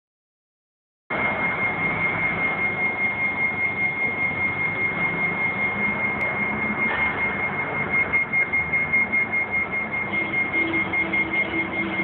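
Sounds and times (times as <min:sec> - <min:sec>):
high-pitched whine: 0:01.1 - 0:12.0.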